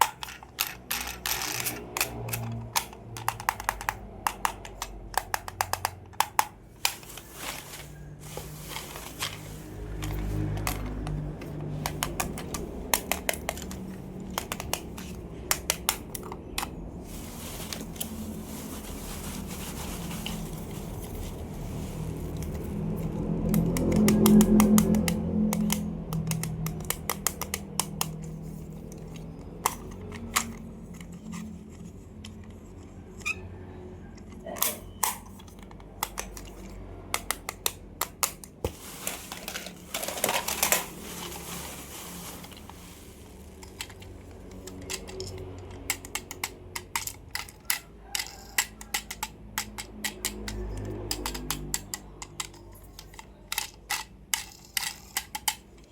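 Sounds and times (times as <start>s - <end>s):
plastic toy cars clicking: 0.0s - 41.7s, 42.3s - 55.9s.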